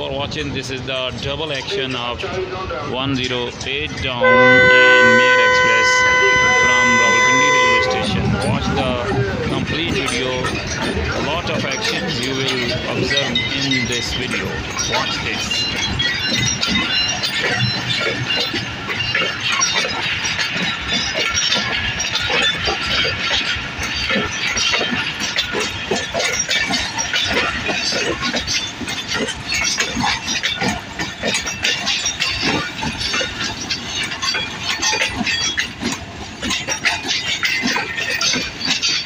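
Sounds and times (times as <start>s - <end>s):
train wheels clattering over rails: 0.0s - 39.0s.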